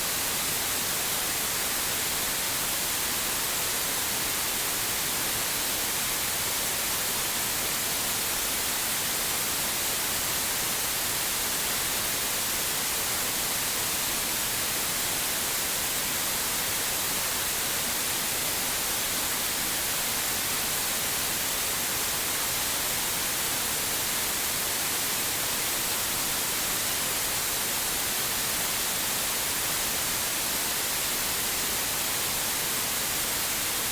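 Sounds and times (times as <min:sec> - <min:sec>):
white noise hiss: 0:00.0 - 0:33.9.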